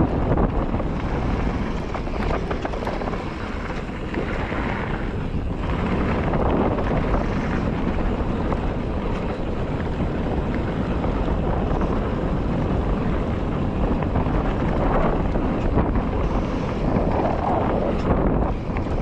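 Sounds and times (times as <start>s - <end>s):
mountain bike rattling on dirt: 0.0s - 19.0s
wind buffeting microphone: 0.0s - 19.0s.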